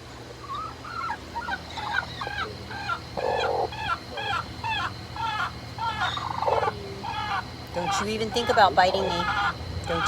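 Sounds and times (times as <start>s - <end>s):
hen clucking: 0.3s - 10.0s
hen squawking: 0.4s - 10.0s.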